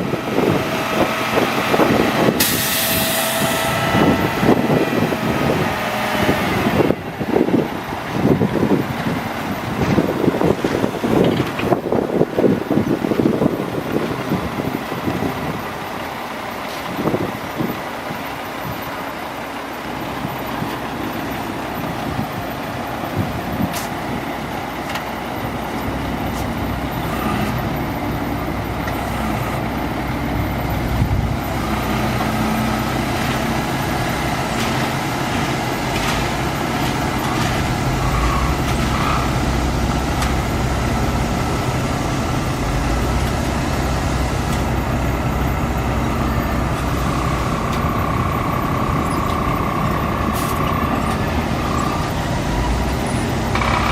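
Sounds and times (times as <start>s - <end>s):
diesel truck engine drone: 0.0s - 53.9s.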